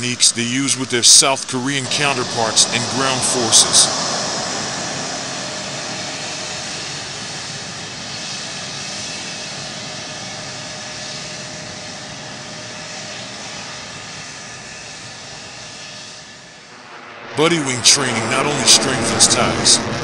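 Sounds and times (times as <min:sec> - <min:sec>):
jet engine running: 0:00.0 - 0:20.0.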